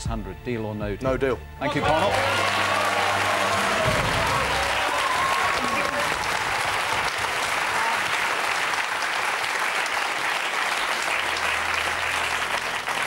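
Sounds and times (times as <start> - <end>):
audience applauding: 1.7 - 13.0.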